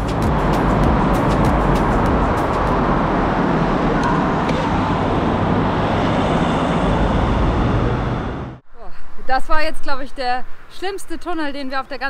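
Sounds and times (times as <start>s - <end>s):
tunnel traffic rumble: 0.0s - 12.0s.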